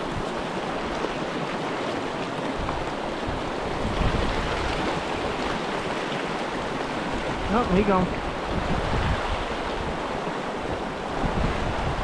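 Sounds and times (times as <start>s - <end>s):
creek water rushing and babbling: 0.0s - 12.0s.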